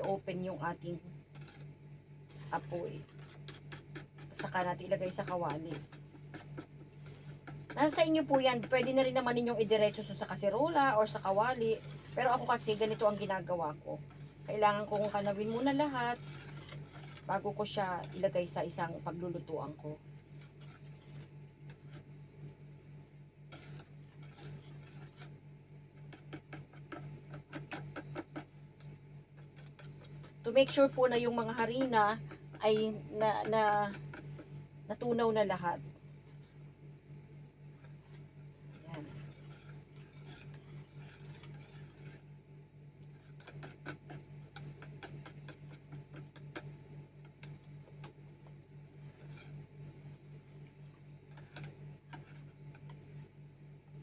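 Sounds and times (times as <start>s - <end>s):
spoon scraping plastic bowl: 0.0s - 22.4s, 23.5s - 36.7s, 37.7s - 42.3s, 43.0s - 46.7s, 50.6s - 53.3s
low steady hum: 0.0s - 54.0s.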